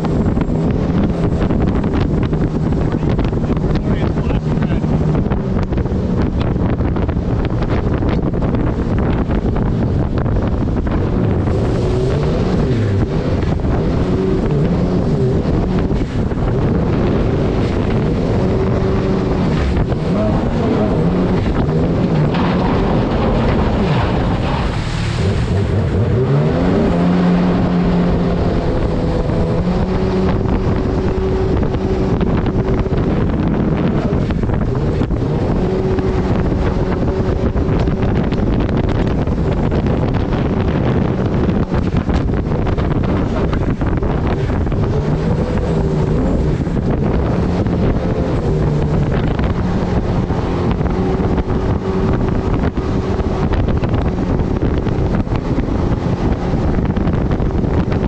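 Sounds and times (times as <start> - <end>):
jet boat engine running hard: 0.0 - 58.0
rushing water: 0.0 - 58.0
wind on microphone: 0.0 - 58.0.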